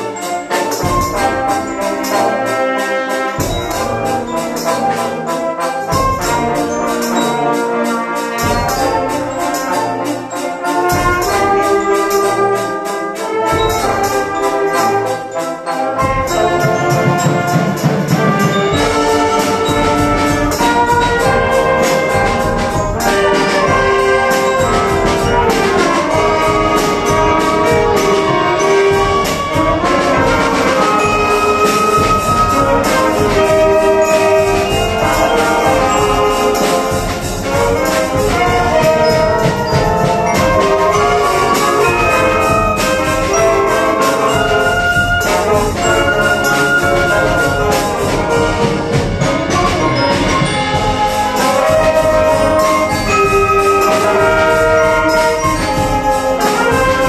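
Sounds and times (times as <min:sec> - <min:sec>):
drums keeping a beat: 0:00.0 - 0:57.0
wind band playing: 0:00.0 - 0:57.0.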